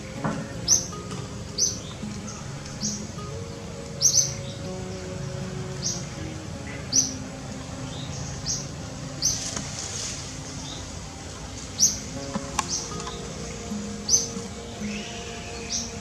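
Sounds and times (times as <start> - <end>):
bird chirping: 0.0 - 16.0
held low notes: 0.0 - 16.0.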